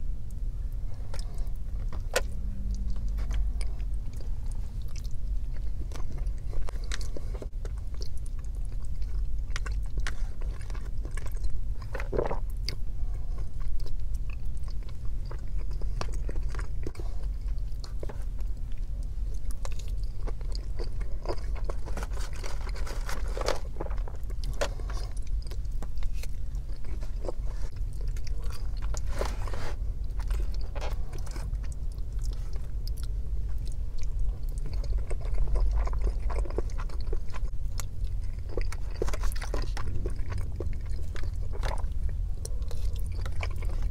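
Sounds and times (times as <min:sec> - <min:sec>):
chewing soft food: 0:00.0 - 0:43.9
low hum: 0:00.0 - 0:43.9.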